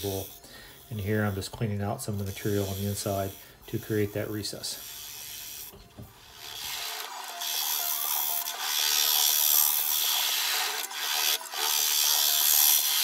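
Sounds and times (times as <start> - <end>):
lathe tool scraping wood: 0.0 - 13.0.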